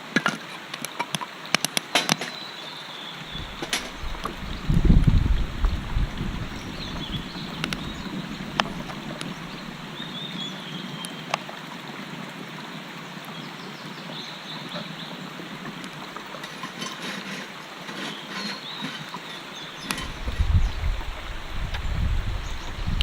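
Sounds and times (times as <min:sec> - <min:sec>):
brook babbling: 0:00.0 - 0:23.0.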